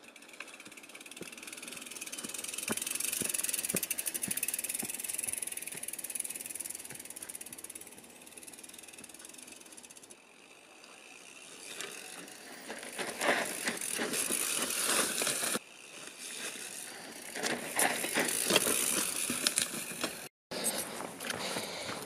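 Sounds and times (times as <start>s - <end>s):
bike clicking and rattling: 0.0s - 22.0s
bike tyres crunching over dirt: 0.0s - 22.0s.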